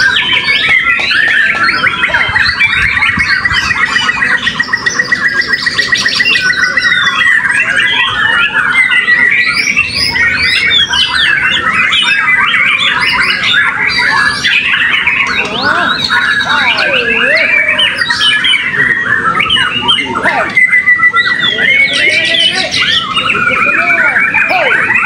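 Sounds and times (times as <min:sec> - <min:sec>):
birds singing whistled phrases: 0:00.0 - 0:25.0
fast repeated bird trill: 0:00.0 - 0:25.0.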